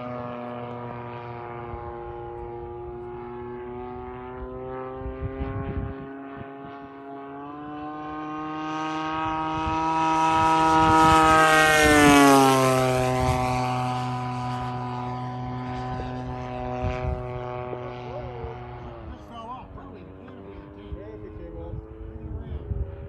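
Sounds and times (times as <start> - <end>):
model airplane engine flying past: 0.0 - 23.0.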